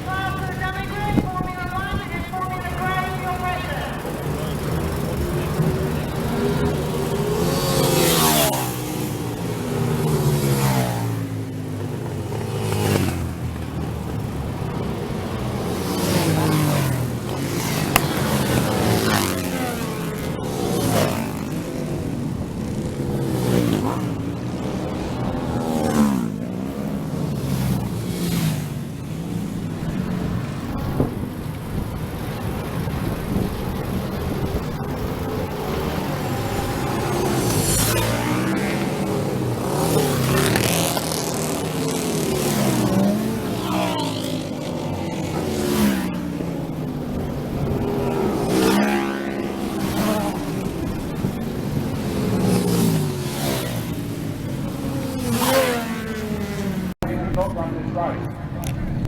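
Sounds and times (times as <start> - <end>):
racing motorcycles passing: 0.0 - 59.0.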